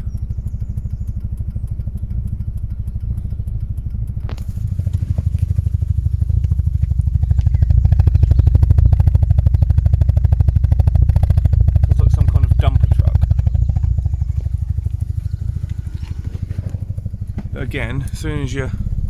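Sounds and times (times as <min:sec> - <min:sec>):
click: 0:00.0 - 0:11.9, 0:12.5 - 0:17.6
van engine misfiring: 0:00.0 - 0:19.0.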